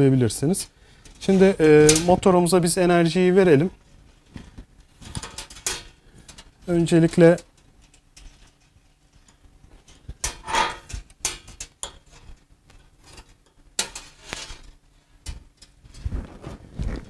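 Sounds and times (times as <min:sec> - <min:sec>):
wires rustling and clicking: 0:00.6 - 0:02.5, 0:03.6 - 0:17.0.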